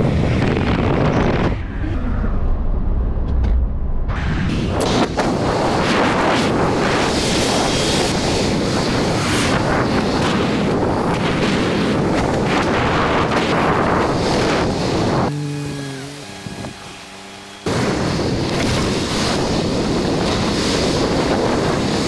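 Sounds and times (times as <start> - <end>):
wind buffeting microphone: 0.0 - 2.7, 4.5 - 22.0.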